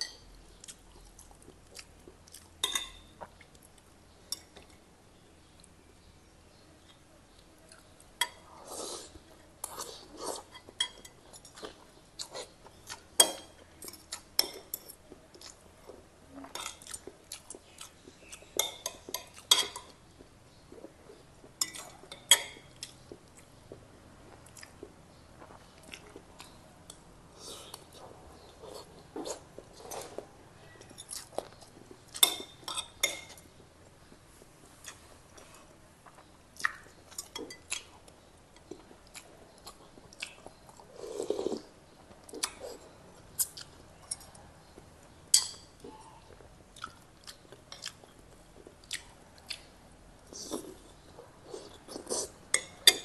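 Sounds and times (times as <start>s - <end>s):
close chewing of food: 0.5s - 4.8s, 7.6s - 53.0s.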